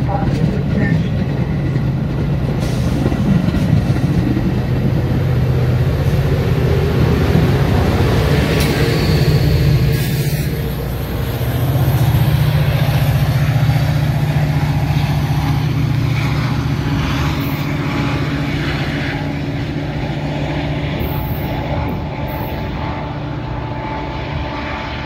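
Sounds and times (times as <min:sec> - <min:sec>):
diesel locomotive engine drone: 0:00.0 - 0:25.0.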